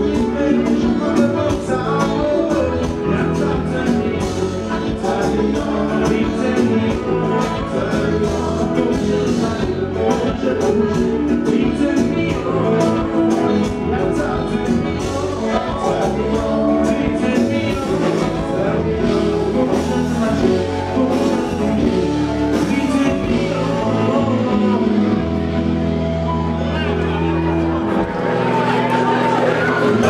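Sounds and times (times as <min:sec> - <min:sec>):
dance music with singing: 0:00.0 - 0:25.7
bass line: 0:00.0 - 0:30.0.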